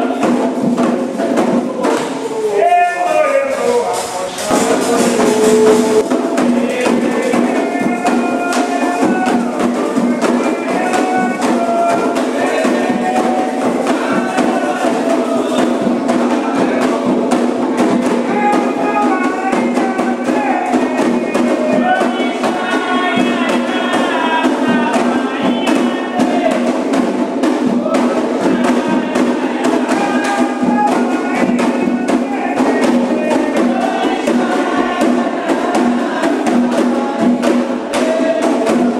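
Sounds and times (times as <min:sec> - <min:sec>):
hand drums and percussion: 0:00.0 - 0:38.9
voices singing a chant: 0:00.0 - 0:38.9.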